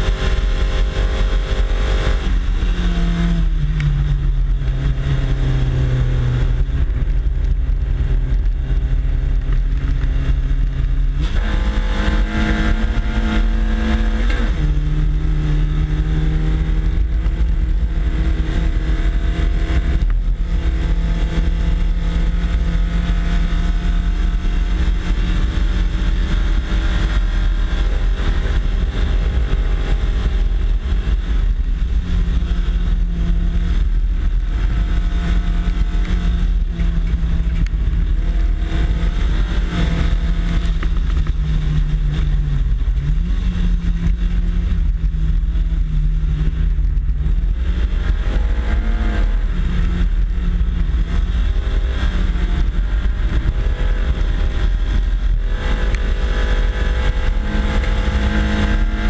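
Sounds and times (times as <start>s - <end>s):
race car engine running hard: 0.0s - 59.0s
wind rumble on microphone: 0.0s - 59.0s.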